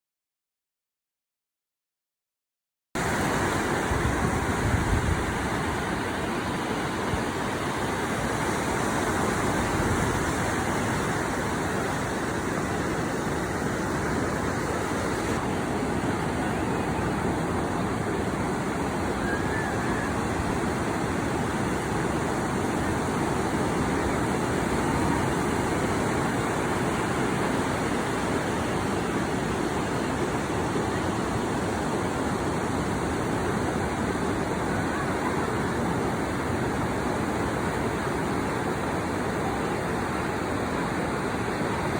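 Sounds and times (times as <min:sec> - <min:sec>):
ocean surf on a beach: 0:03.0 - 0:41.9
wind on microphone: 0:03.0 - 0:41.9.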